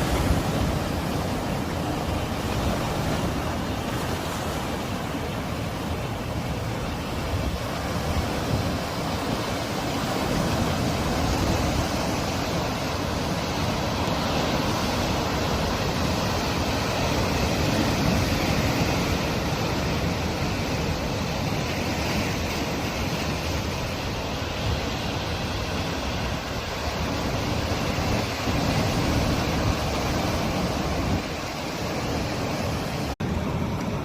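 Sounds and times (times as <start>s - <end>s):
waves breaking: 0.0s - 34.0s.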